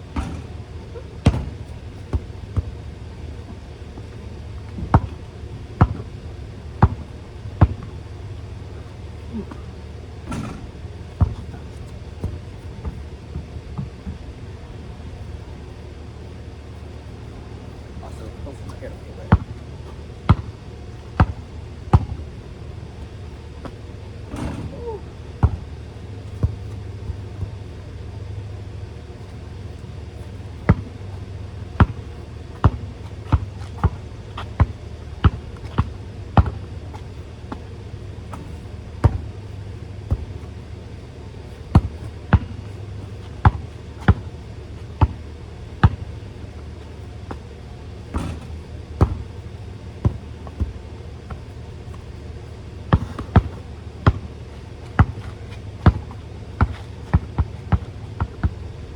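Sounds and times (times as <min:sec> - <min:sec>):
basketball bouncing on hard court: 0:00.0 - 0:15.2, 0:18.6 - 0:58.8
steady low hum: 0:00.0 - 0:58.9.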